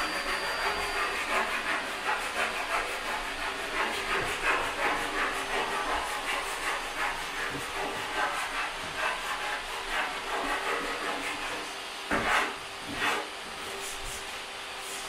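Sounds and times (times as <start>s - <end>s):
sanding block rubbing wood: 0.0s - 15.0s.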